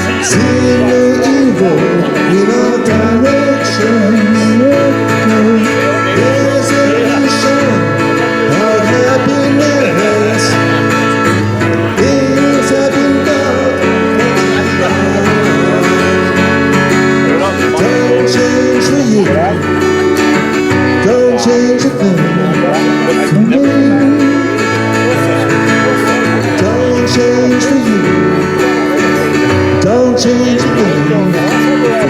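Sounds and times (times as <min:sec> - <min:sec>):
acoustic guitar strummed chords: 0:00.0 - 0:32.0
bass guitar: 0:00.0 - 0:32.0
sliding guitar lead melody: 0:00.0 - 0:32.0.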